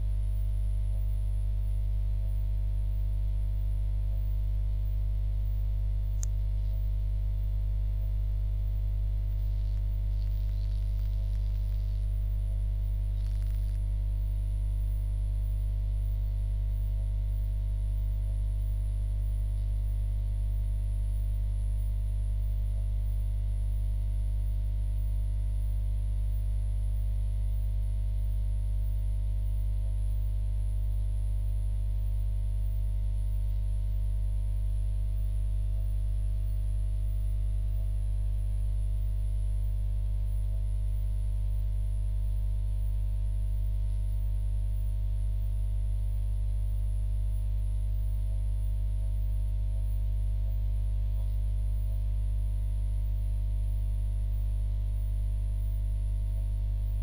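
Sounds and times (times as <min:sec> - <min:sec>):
faint high-pitched whine: 0:00.0 - 0:57.0
mains hum: 0:00.0 - 0:57.0.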